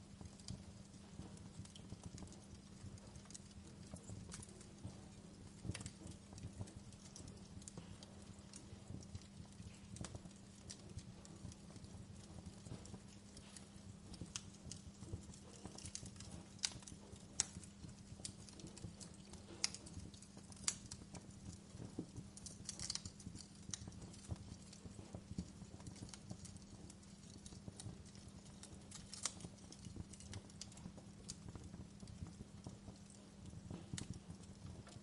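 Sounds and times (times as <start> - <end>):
low steady hum: 0.0 - 35.0
wood fire crackling: 0.0 - 35.0
sharp pops and snaps: 0.2 - 35.0.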